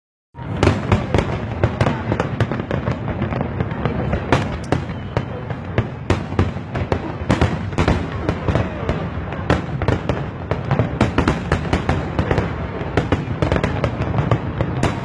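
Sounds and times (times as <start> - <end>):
fireworks bangs: 0.4 - 15.0
rumble of explosions: 0.4 - 15.0.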